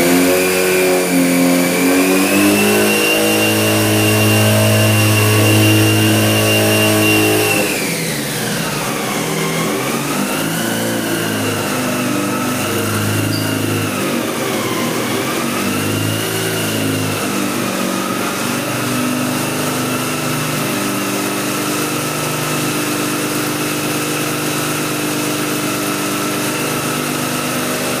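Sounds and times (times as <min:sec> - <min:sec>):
rotary engine running: 0:00.0 - 0:28.0
supercharger whine: 0:00.0 - 0:28.0.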